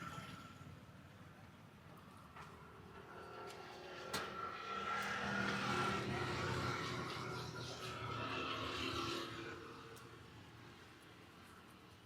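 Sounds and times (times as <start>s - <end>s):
quiet street background: 0.0s - 12.0s.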